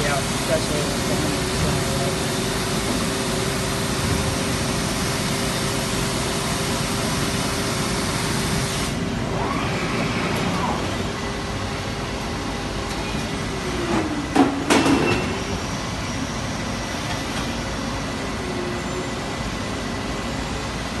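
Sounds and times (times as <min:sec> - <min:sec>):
cnc machine running: 0:00.0 - 0:21.0.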